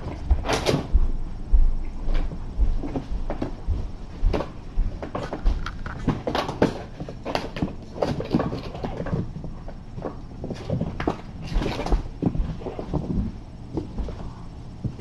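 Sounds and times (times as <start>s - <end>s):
kittens' paws thumping and tapping: 0.0s - 15.0s.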